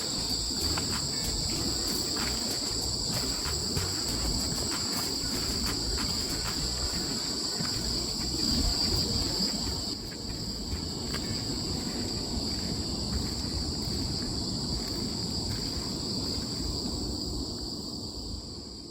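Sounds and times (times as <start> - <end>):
crickets chirring: 0.0 - 18.9.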